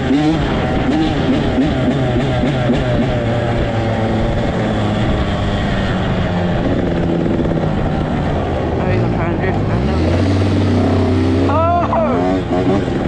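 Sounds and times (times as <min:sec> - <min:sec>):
small vehicle engine revving: 0:00.0 - 0:13.0.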